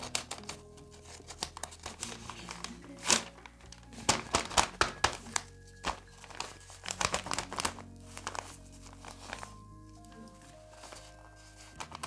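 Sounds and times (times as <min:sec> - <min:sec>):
faint background music: 0:00.0 - 0:12.0
paper crinkling and rustling: 0:00.0 - 0:12.0.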